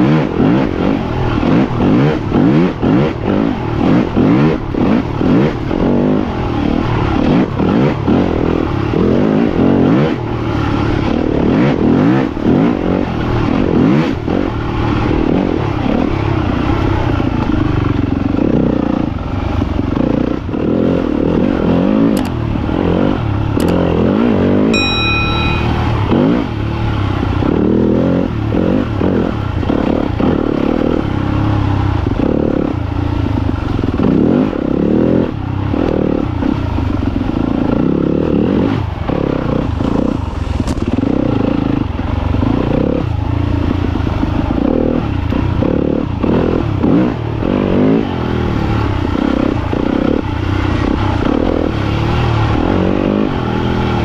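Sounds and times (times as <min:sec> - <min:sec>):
dirt bike engine revving: 0:00.0 - 0:43.4.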